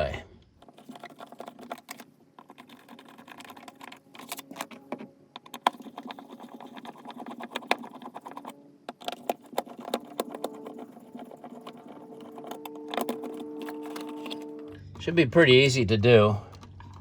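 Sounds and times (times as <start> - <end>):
tools and plastic parts clicking: 0.4 - 14.8.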